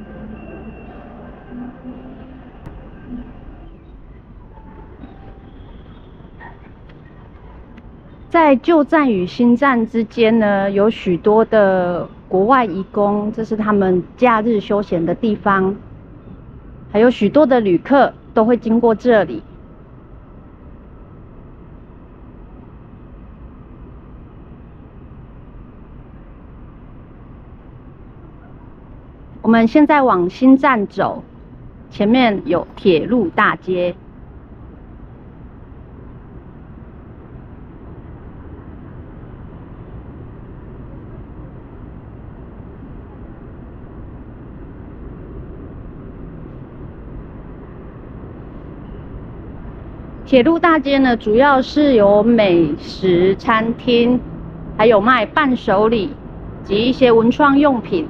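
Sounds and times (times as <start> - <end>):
distant traffic rumble: 0.0 - 58.0.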